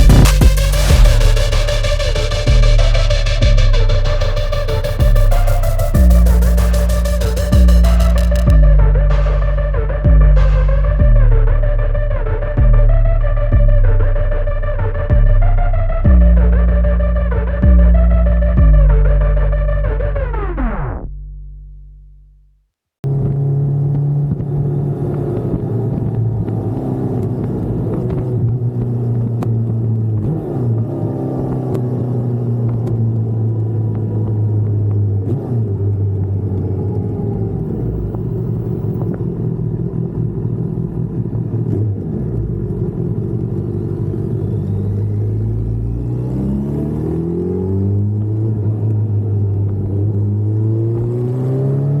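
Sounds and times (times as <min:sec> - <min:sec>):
motorcycle engine accelerating: 0:00.0 - 0:21.3, 0:23.0 - 0:52.0.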